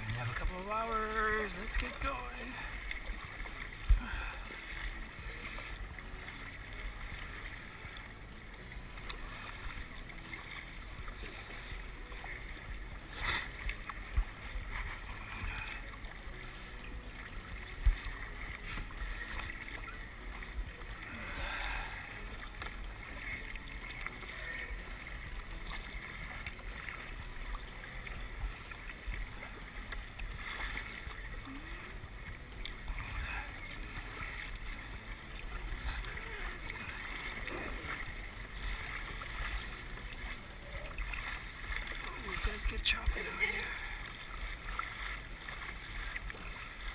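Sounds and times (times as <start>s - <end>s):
water slapping against kayak: 0.0s - 46.9s.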